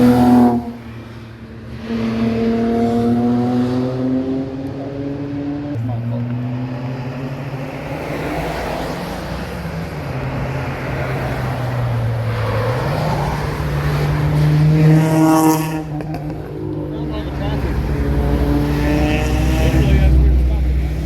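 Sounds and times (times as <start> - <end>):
car engine passing by: 0.0 - 21.0.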